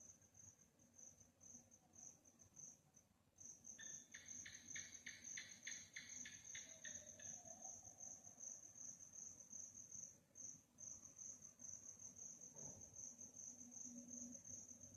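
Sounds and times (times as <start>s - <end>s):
crickets trilling: 0.0s - 14.9s
lower pulsing insect call: 0.0s - 14.9s.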